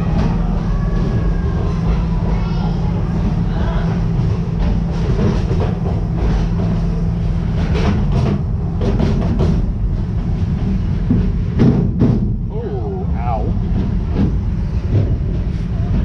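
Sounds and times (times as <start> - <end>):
train rumble on track: 0.0 - 16.0.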